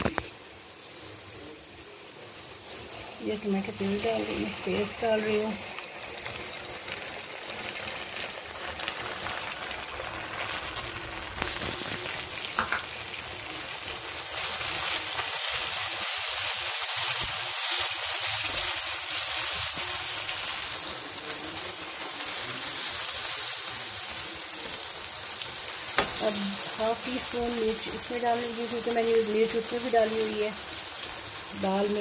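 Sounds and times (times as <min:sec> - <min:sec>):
puree sizzling in hot oil: 0:00.0 - 0:32.0.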